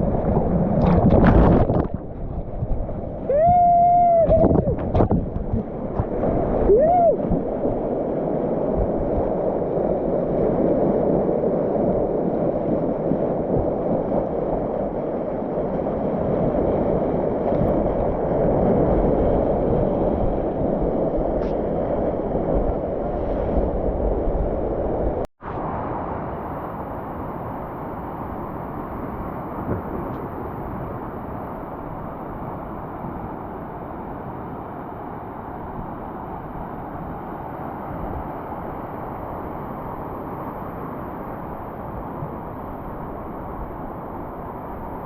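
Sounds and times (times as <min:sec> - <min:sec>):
water rushing: 0:00.0 - 0:45.0
wind noise on microphone: 0:00.0 - 0:45.0.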